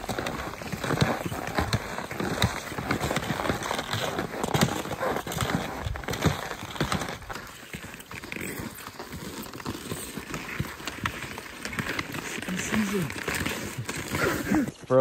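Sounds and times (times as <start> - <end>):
skis crunching on snow: 0.0 - 15.0.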